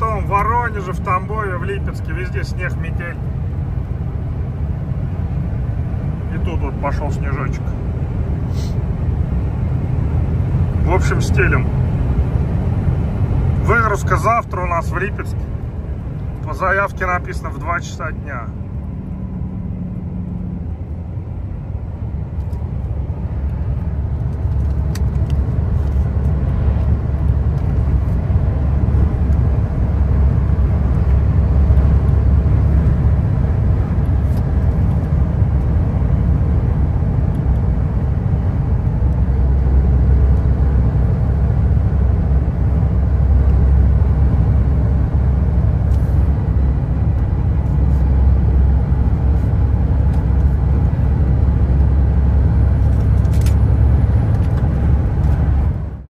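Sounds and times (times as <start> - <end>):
truck engine drone and road rumble: 0.0 - 56.0.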